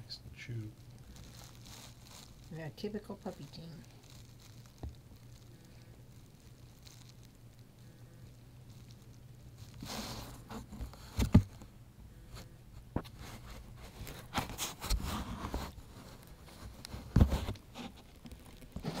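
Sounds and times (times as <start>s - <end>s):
rustling and scraping: 0.4s - 11.7s, 12.3s - 19.0s.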